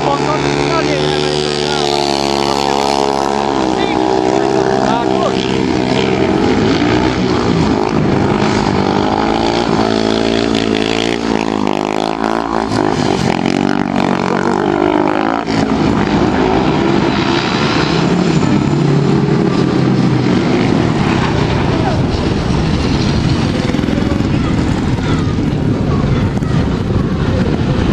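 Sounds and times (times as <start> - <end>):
motorcycle engines running hard: 0.0 - 27.9.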